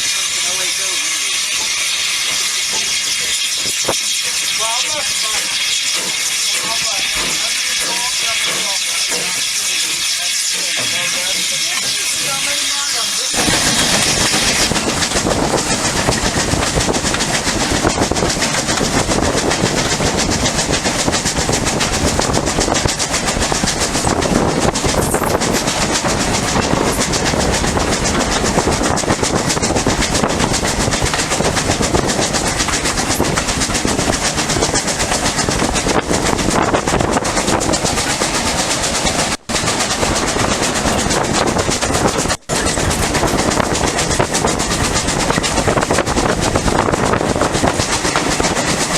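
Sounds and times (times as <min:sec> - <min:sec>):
train rumbling on track: 0:00.0 - 0:48.9
wheels clacking over rail joints: 0:00.0 - 0:48.9.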